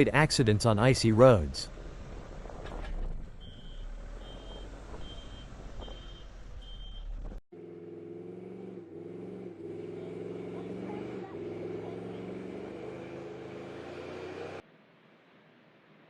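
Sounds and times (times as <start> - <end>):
vehicle engine droning: 0.0 - 14.6
road rumble: 0.0 - 16.0.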